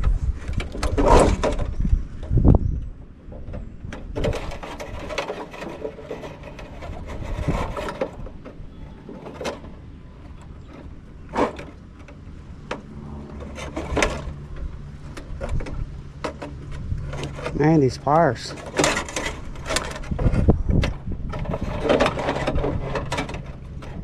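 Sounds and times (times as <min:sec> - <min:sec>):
hand tools clanking on metal: 0:04.1 - 0:24.0.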